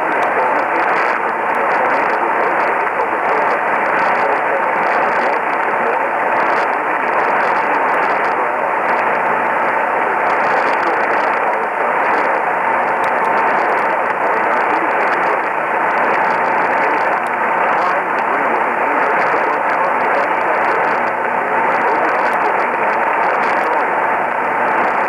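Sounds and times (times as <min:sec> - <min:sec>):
faint voice reading: 0:00.0 - 0:25.0
radio static hiss: 0:00.0 - 0:25.0.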